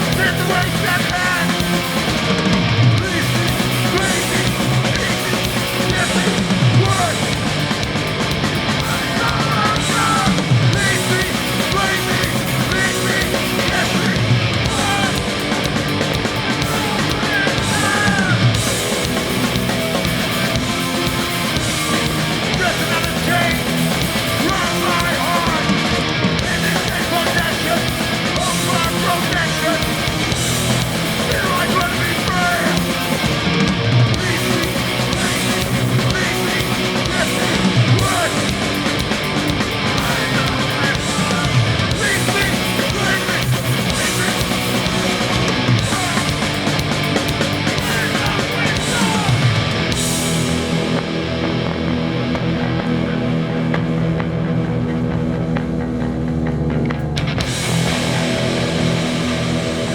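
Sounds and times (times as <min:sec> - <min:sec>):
punk band playing live: 0:00.0 - 0:59.9.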